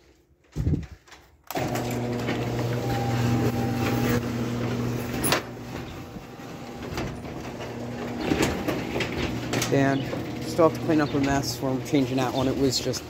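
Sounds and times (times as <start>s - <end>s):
garage door opener motor hum: 1.5s - 13.0s.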